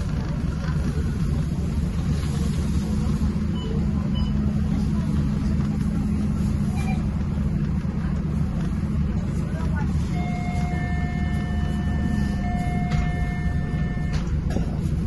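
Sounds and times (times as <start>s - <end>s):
bus engine droning: 0.0s - 15.0s.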